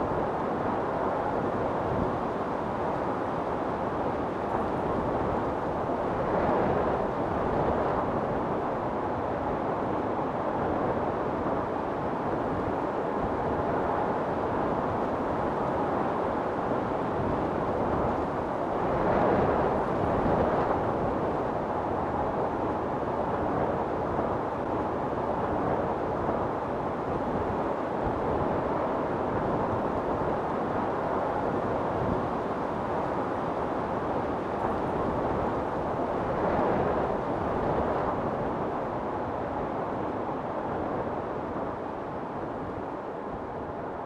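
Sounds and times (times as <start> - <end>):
wind storm gusts: 0.0 - 44.0.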